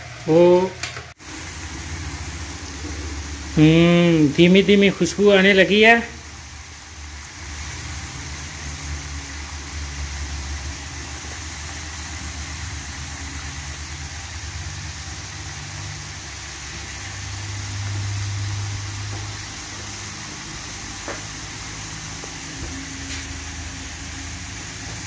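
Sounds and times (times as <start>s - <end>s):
fries sizzling in hot oil: 0.0s - 25.0s.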